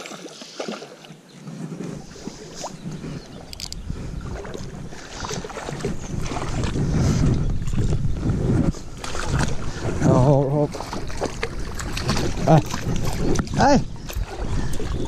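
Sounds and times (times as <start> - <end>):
wind rumbling on microphone: 1.3 - 15.0.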